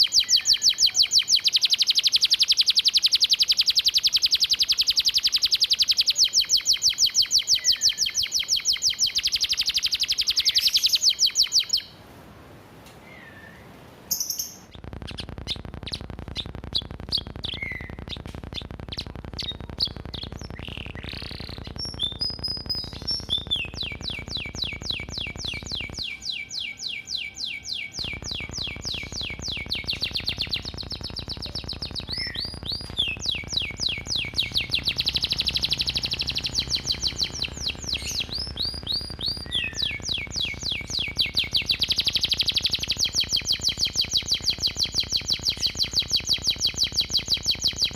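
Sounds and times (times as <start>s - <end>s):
canary singing trills: 0.0s - 12.0s, 13.0s - 47.9s.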